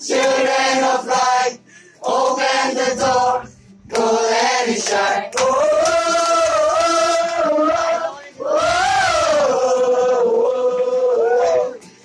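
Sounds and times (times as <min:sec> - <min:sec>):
crowd singing unaccompanied: 0:00.0 - 0:11.9.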